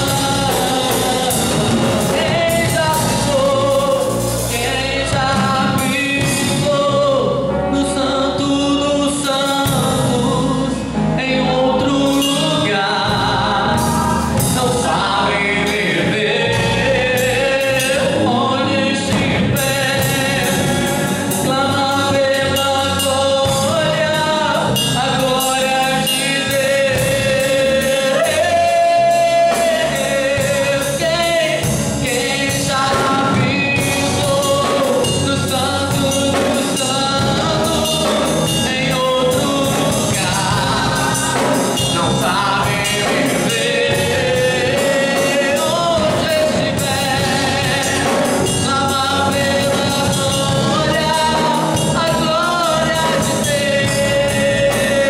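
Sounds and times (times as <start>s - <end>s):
drum kit and cymbals: 0.0s - 7.3s, 11.8s - 55.0s
electric bass: 0.0s - 55.0s
electric guitar: 0.0s - 55.0s
man singing: 0.0s - 55.0s.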